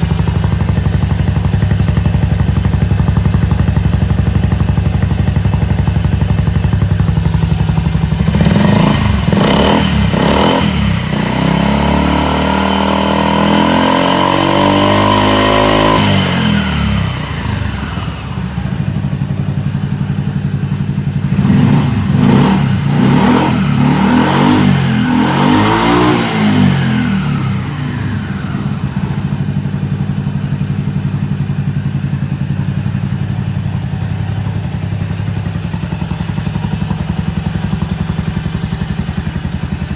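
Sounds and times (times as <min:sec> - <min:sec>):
scooter engine revving: 0:00.0 - 0:39.9.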